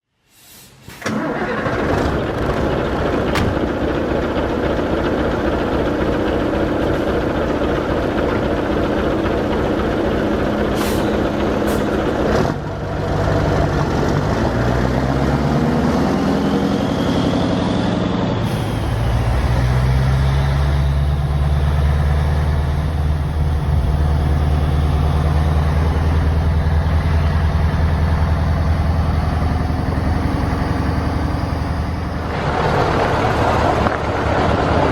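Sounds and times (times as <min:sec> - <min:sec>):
diesel engine cranking: 0:00.9 - 0:16.0, 0:18.5 - 0:34.9
diesel engine idling: 0:01.1 - 0:14.2, 0:18.5 - 0:34.9.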